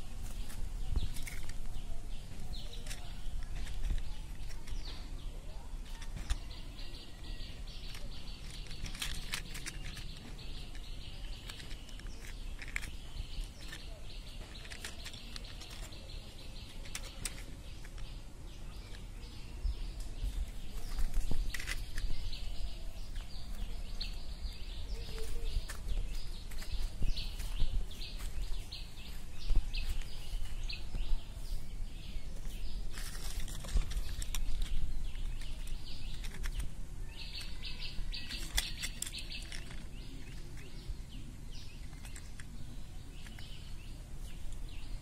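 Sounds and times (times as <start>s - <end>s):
handling noise: 0.0s - 45.0s
leaves and stems rustling: 0.0s - 45.0s
small birds chirping: 0.0s - 45.0s.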